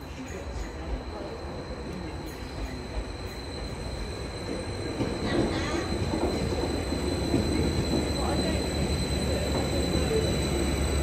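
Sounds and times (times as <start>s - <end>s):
train approaching: 0.0s - 11.0s
wheels squealing on rails: 0.0s - 11.0s.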